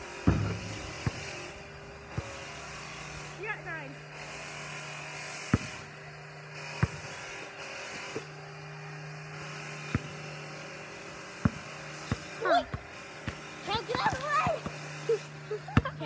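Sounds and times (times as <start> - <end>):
basketball bouncing on pavement: 0.0 - 16.0.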